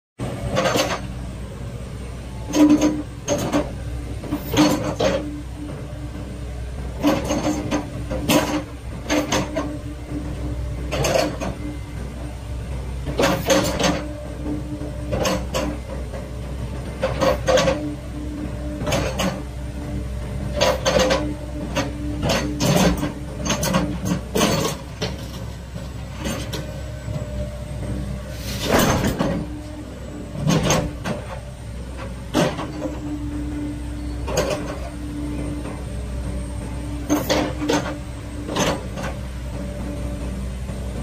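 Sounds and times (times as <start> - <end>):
excavator clunks: 0.2 - 41.0
excavator engine running: 0.2 - 41.0.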